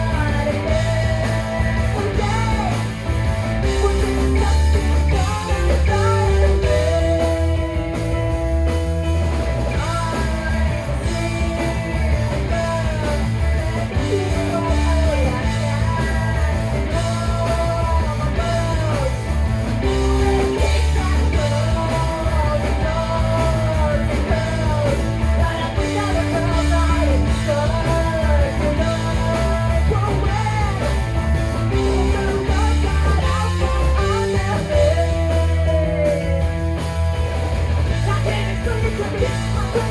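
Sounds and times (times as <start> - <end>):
drums: 0.0 - 39.9
electric guitar: 0.0 - 39.9
pulsing bass: 0.0 - 39.9.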